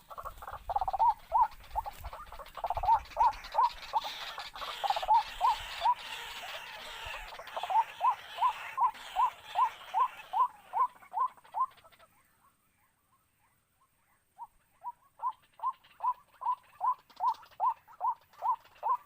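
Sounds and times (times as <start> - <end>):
waterhen calling: 0.0 - 19.0.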